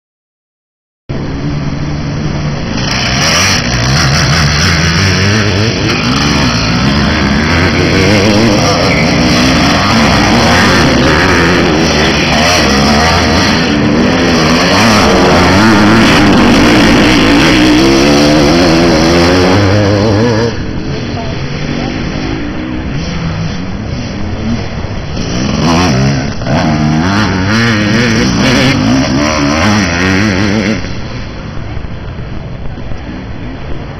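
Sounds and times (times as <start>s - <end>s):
motocross bikes revving: 2.0s - 31.6s.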